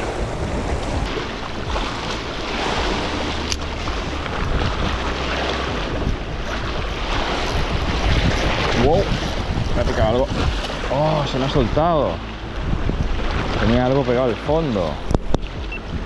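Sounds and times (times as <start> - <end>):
waves splashing over rocks: 0.0 - 16.0
wind buffeting microphone: 0.0 - 16.0.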